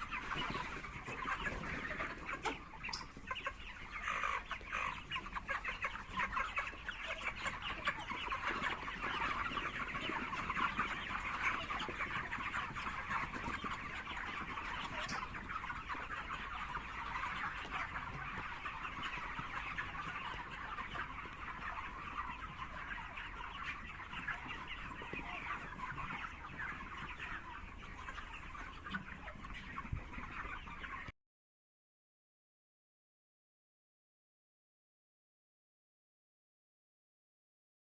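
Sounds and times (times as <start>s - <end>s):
chickens clucking: 0.0s - 31.1s.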